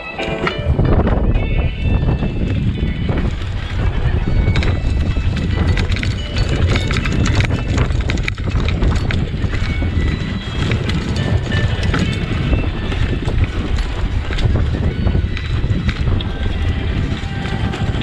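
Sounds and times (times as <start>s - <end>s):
bicycle rattling over rough ground: 0.0s - 18.0s
wind buffeting microphone: 0.0s - 18.0s.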